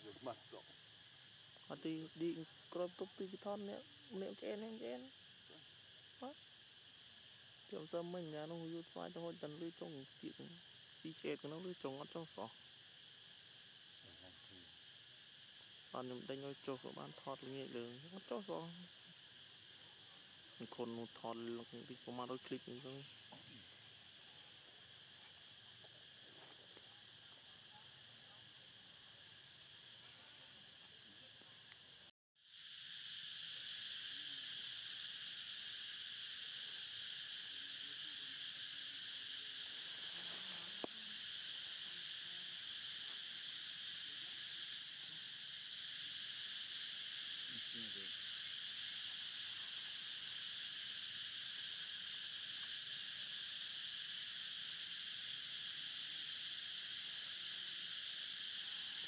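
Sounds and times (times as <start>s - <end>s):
forest insects buzzing: 0.0s - 59.0s.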